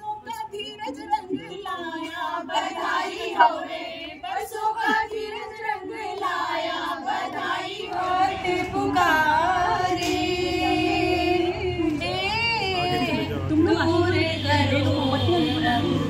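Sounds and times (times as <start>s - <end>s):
women singing devotional song: 0.0s - 16.0s.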